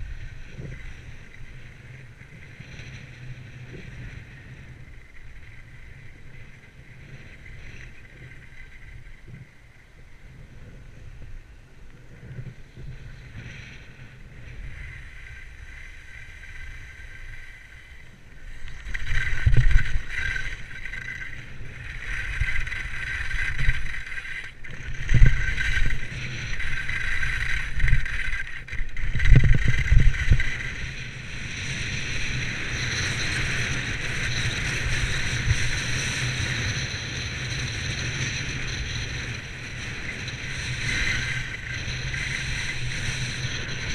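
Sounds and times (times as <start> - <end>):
skis scraping over snow: 0.0 - 43.9
wind buffeting microphone: 0.0 - 43.9.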